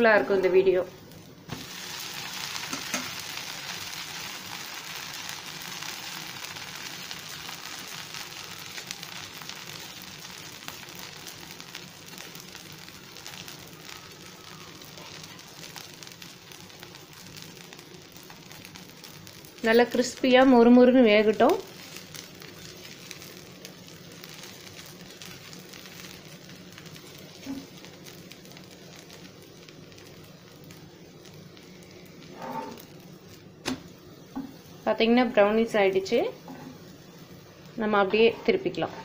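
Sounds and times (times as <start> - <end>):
dosa sizzling in oil: 0.0 - 39.0.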